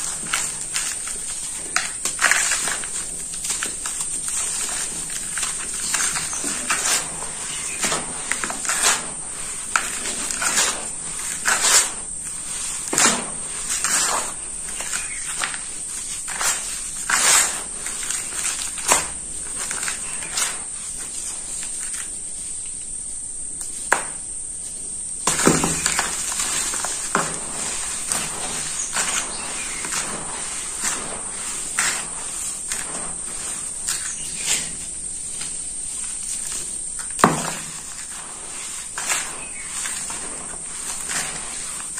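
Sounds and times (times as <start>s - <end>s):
dry powder crunching and pouring: 0.0s - 22.6s, 25.2s - 41.9s.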